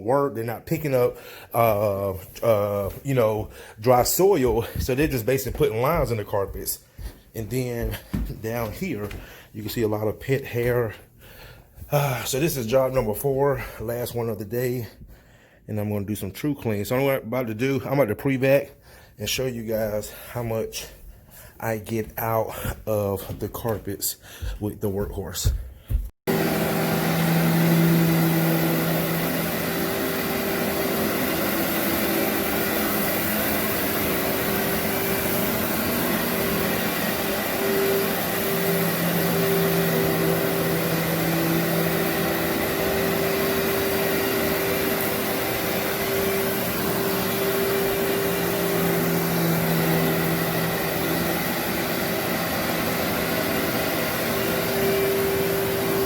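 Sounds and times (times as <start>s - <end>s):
vacuum cleaner running: 0.0s - 15.2s, 18.6s - 56.0s.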